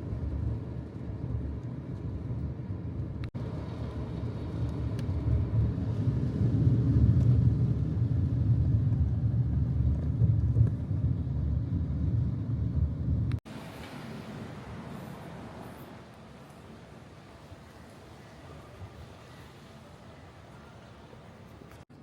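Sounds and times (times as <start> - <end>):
vehicle rumbling in motion: 0.0 - 22.0.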